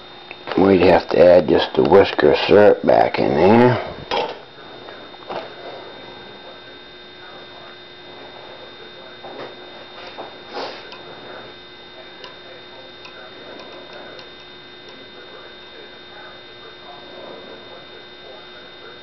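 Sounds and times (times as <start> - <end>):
steady hum with high whine: 0.0 - 19.0.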